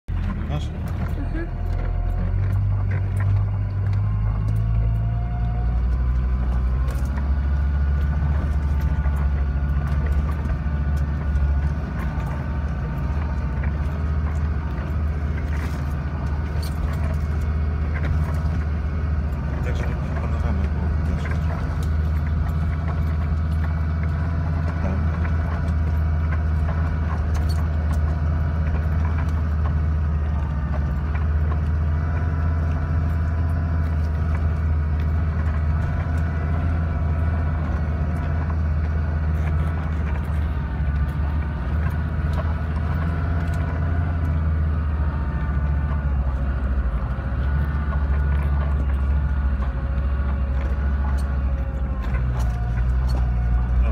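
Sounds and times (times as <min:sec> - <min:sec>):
vehicle engine running at low revs: 0:00.0 - 0:53.9
vehicle rattles and knocks: 0:00.0 - 0:53.9.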